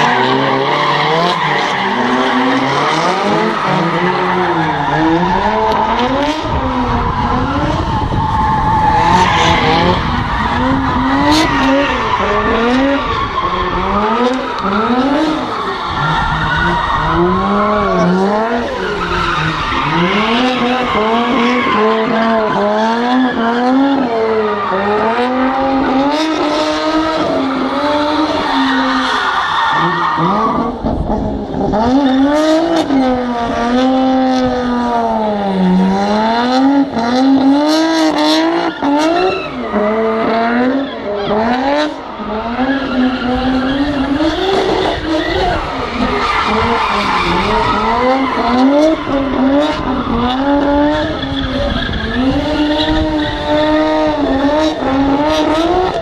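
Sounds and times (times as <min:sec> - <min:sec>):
car engines revving: 0:00.0 - 0:56.0
tyres skidding and squealing: 0:00.0 - 0:56.0.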